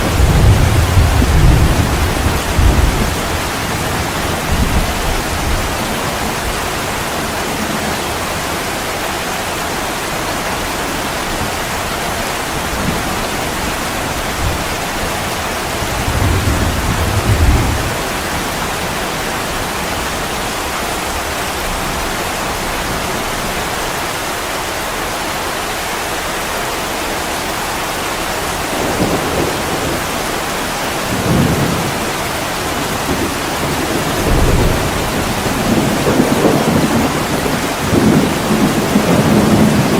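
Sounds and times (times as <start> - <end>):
thunder rumbling: 0.0 - 8.7, 10.6 - 24.0, 28.3 - 39.9
heavy rain on window glass: 0.0 - 39.9.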